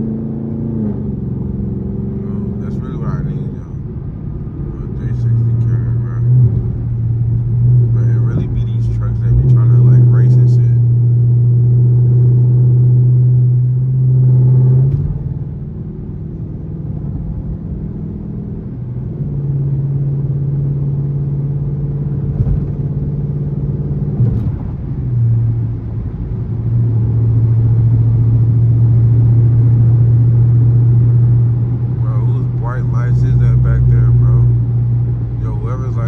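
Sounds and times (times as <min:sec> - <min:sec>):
car engine droning inside cabin: 0:00.0 - 0:36.0.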